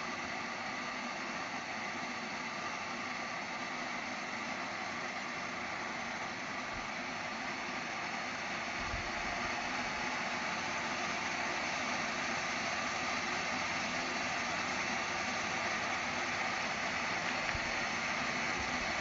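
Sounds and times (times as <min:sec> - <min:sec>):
fan blowing air: 0:00.0 - 0:19.0.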